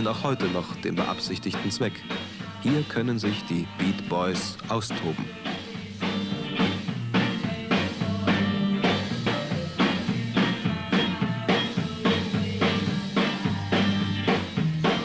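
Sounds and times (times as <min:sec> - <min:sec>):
bass guitar: 0:00.0 - 0:15.0
drum kit beat: 0:00.0 - 0:15.0
electric guitar: 0:00.0 - 0:15.0.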